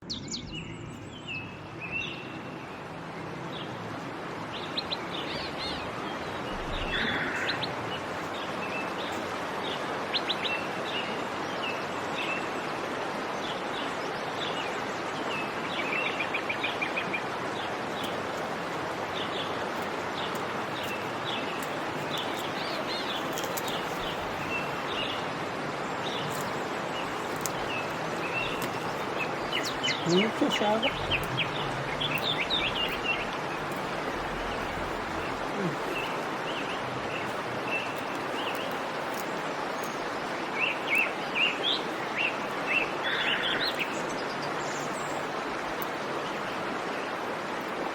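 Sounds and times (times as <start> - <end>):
small birds chirping: 0.0 - 12.5, 13.4 - 47.7
steady background hiss: 1.2 - 47.9.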